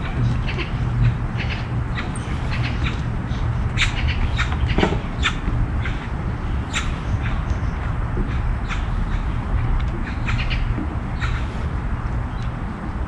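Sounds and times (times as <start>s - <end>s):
birds calling: 0.0s - 12.8s
steady low rumble: 0.0s - 13.0s.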